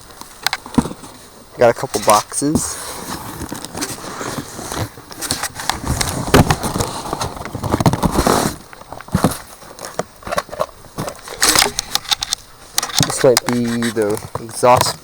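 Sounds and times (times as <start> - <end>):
cardboard rustling and crinkling: 0.0 - 15.0.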